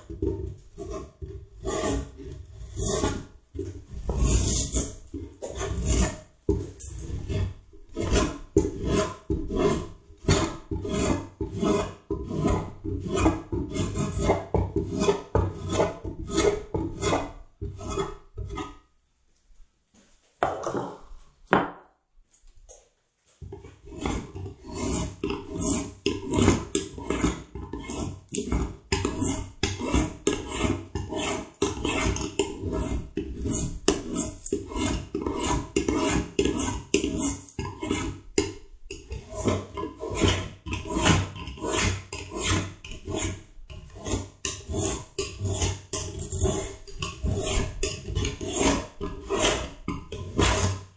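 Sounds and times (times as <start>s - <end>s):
edge tool shaving wood: 0.0s - 18.7s, 23.4s - 50.9s.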